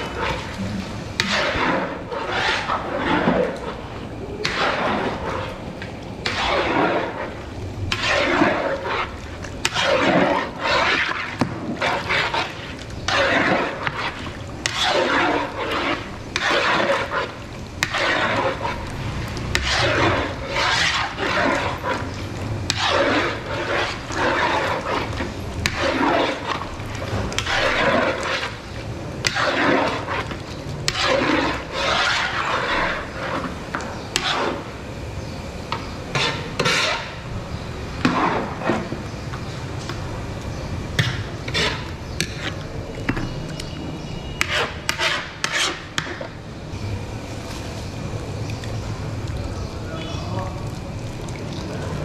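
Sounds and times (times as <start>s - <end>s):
metal ladle scraping steel pan: 0.0s - 46.4s.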